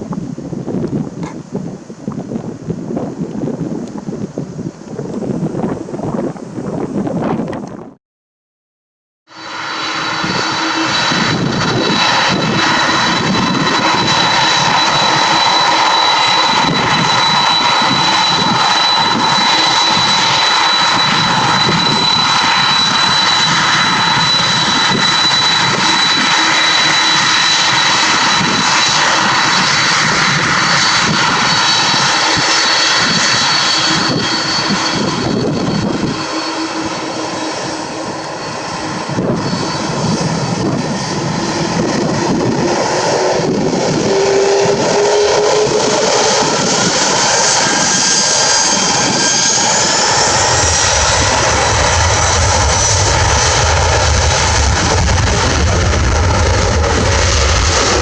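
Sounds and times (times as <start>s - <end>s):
high jet engine whine: 9.3s - 58.0s
jet engines roaring: 9.3s - 58.0s.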